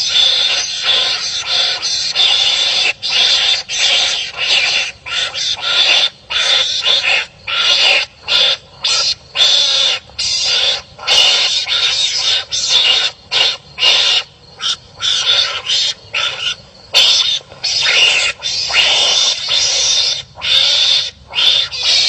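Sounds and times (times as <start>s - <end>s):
animals barking in a fight: 0.0s - 22.0s.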